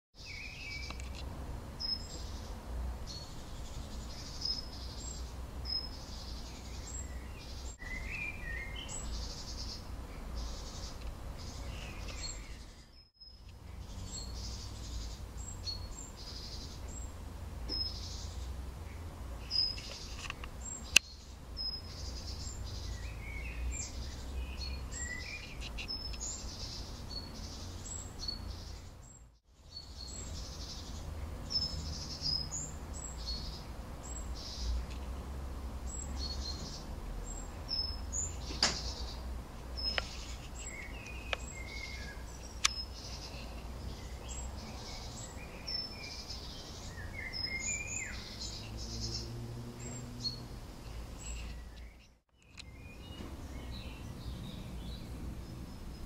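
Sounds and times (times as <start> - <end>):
small birds chirping and singing: 0.2 - 56.0.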